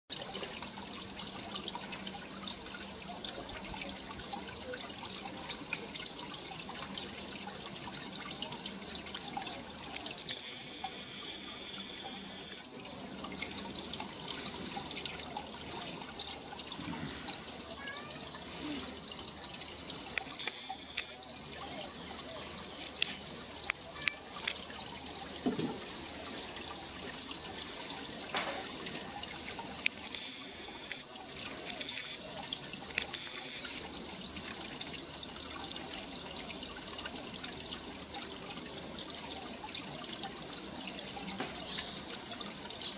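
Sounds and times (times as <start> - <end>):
fountain water trickling and gurgling: 0.1 - 42.9.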